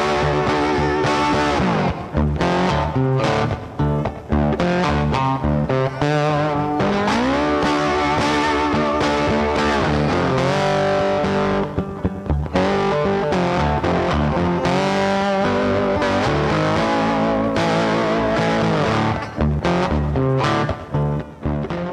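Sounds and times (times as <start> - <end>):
distorted electric guitar music: 0.0 - 21.9.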